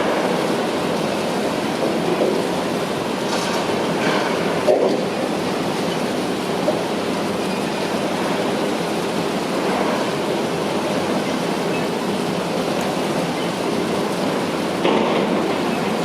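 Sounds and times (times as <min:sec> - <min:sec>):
heavy construction machinery: 0:00.0 - 0:16.0.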